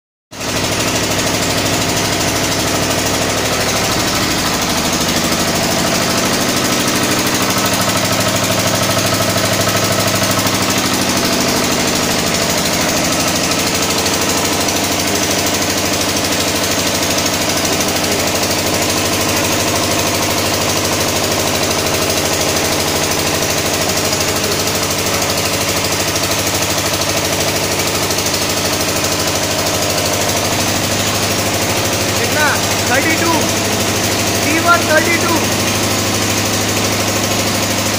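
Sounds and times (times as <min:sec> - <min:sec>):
diesel engine running: 0:00.4 - 0:37.9.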